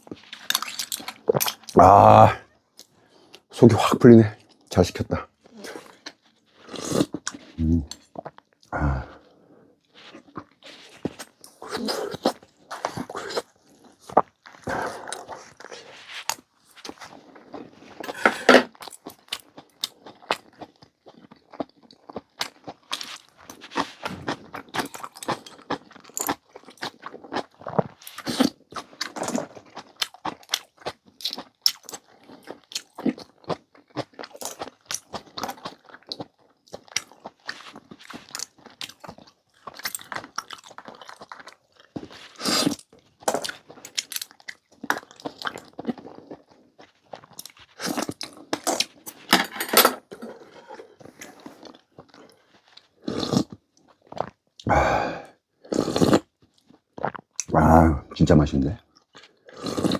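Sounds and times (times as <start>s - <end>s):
chewing and crunching: 0.0s - 3.6s, 4.4s - 49.4s, 50.0s - 54.7s, 55.3s - 57.6s, 58.8s - 59.9s.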